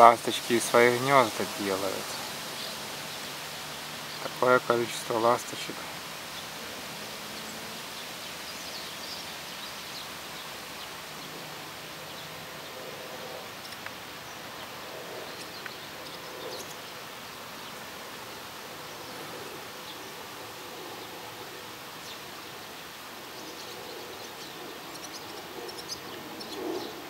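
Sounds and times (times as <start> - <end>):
wind rustling over grassland: 0.0 - 27.0.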